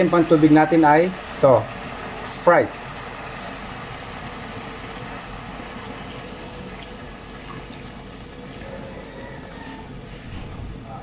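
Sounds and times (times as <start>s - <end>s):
soda pouring into liquid: 0.0s - 10.4s.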